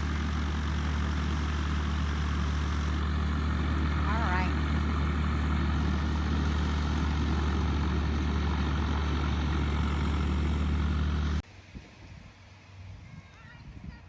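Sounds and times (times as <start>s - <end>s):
propeller airplane engine droning: 0.0s - 11.4s.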